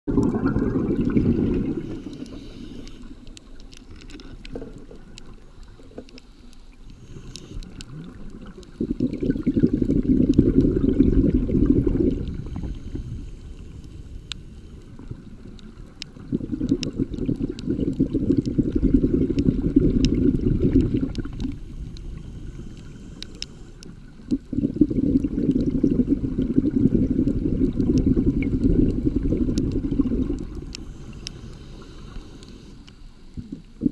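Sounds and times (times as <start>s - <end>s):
sharp underwater clicks: 0.1s - 10.9s, 12.0s - 26.0s, 27.2s - 33.9s
underwater exhaled bubbles: 0.1s - 33.9s.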